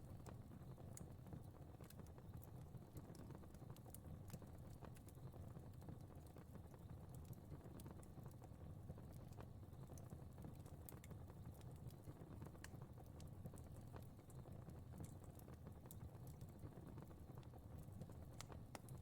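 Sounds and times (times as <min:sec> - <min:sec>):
fire crackling faintly: 0:00.0 - 0:19.0.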